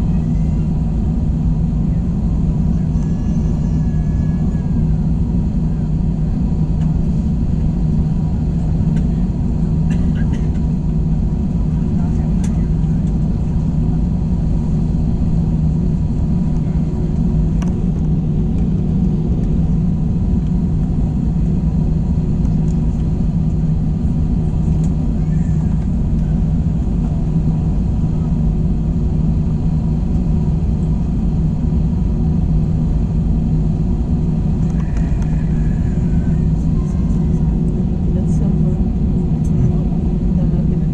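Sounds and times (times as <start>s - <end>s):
aircraft cabin engine hum: 0.0s - 40.9s.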